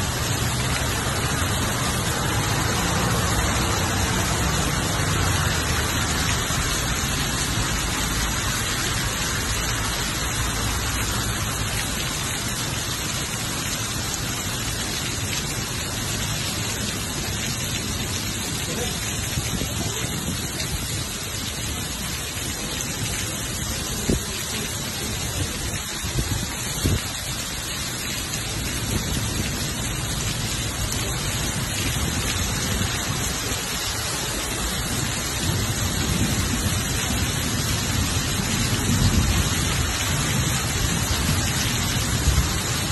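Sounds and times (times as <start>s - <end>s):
heavy rain on road and plants: 0.0s - 42.9s.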